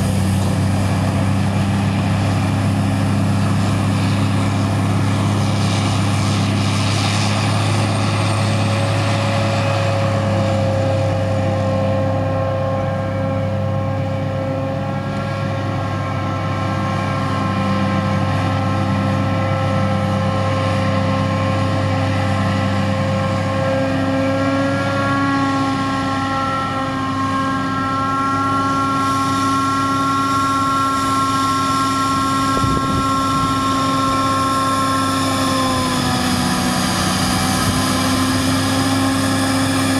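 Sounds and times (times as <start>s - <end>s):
heavy engine drone: 0.0s - 39.9s
high whine of chopping machinery: 0.0s - 39.9s
tractor running: 0.0s - 39.9s.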